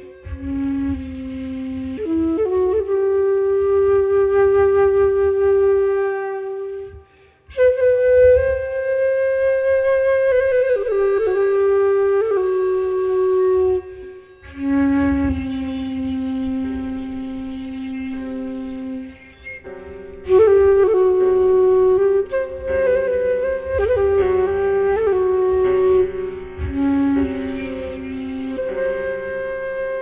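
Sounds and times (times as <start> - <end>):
woodwind playing long notes: 0.0 - 30.0.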